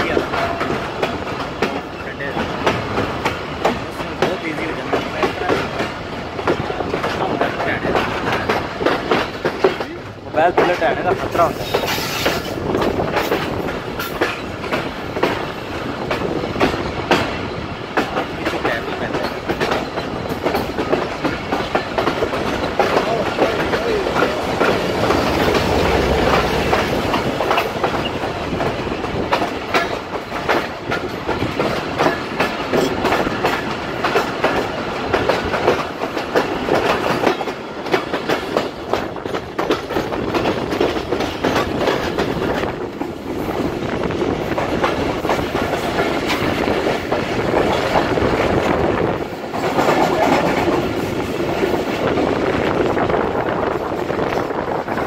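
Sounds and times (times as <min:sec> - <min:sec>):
wheels clattering over rail joints: 0:00.0 - 0:52.1
train rumble: 0:00.0 - 0:55.0.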